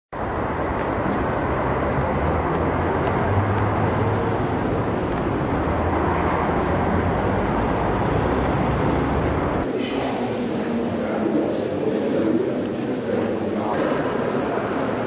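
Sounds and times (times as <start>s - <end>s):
street traffic rumble: 0.1s - 15.0s.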